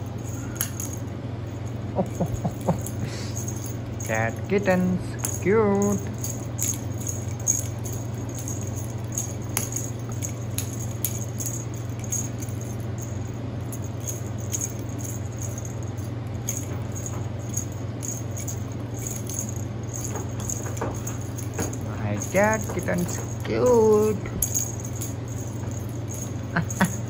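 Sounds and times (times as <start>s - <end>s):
bell ball toy jingling: 0.0s - 27.0s
low hum: 0.0s - 27.0s.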